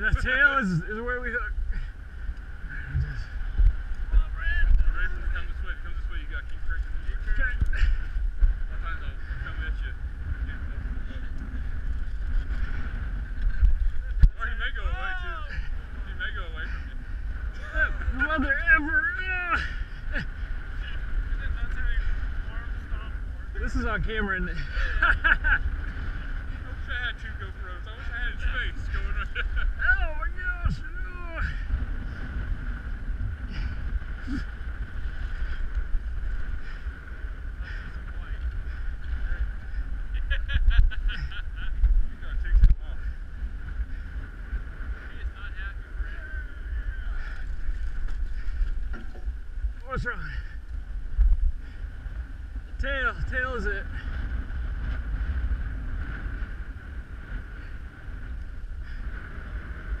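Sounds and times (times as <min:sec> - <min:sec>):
wind buffeting microphone: 0:00.0 - 1:00.0.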